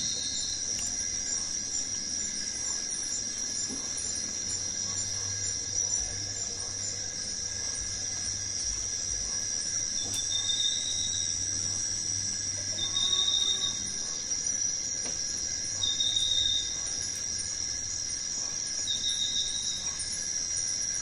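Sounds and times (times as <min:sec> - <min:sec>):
insects droning: 0:00.0 - 0:21.0
short insect call: 0:00.0 - 0:21.0.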